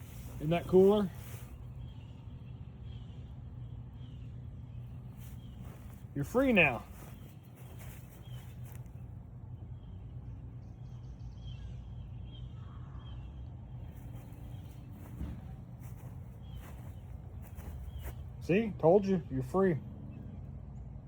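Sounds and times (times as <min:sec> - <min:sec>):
faint bird chirps: 0:00.0 - 0:18.4
steady low hum: 0:00.0 - 0:21.0.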